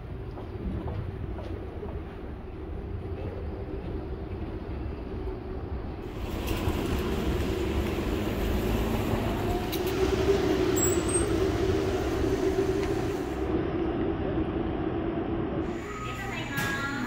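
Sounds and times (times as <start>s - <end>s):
traffic engine drone: 0.1s - 17.0s.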